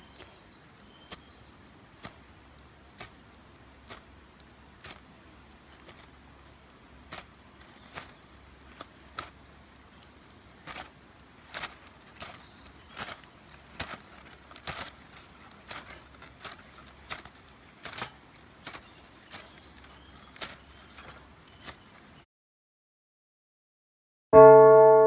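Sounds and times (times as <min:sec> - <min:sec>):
faint steady background noise: 0:00.0 - 0:22.2.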